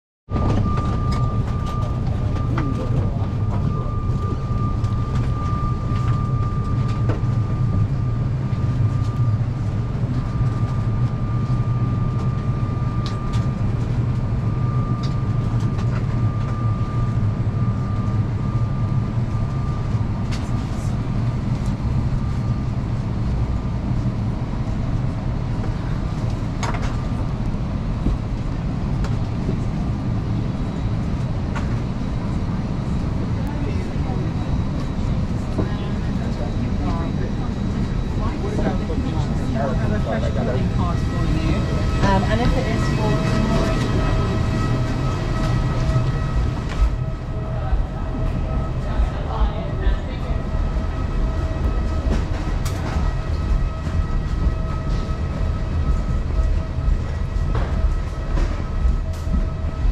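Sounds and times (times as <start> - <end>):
airliner cabin drone: 0.3 - 59.9.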